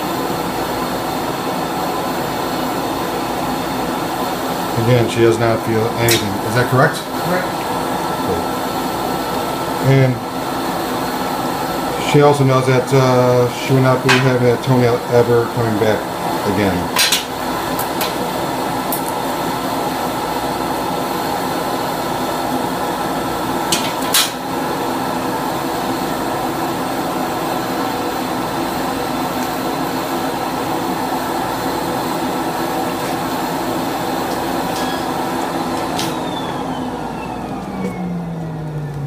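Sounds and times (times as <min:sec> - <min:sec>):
vacuum motor running: 0:00.0 - 0:39.0.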